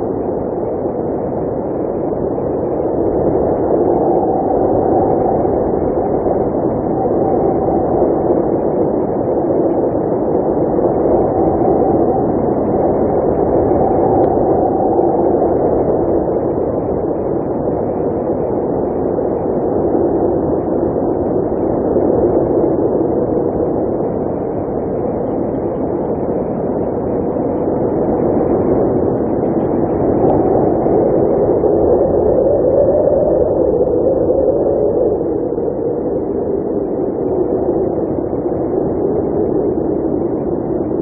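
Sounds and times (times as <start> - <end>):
blizzard wind blowing: 0.0 - 41.0.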